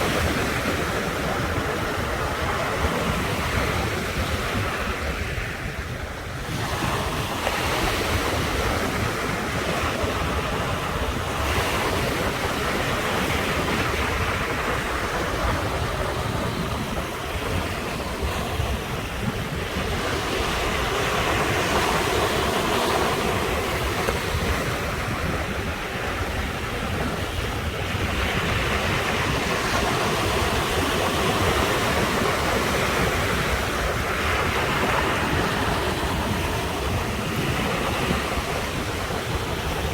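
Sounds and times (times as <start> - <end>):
ocean surf washing ashore: 0.0 - 39.9
wind buffeting microphone: 0.0 - 39.9.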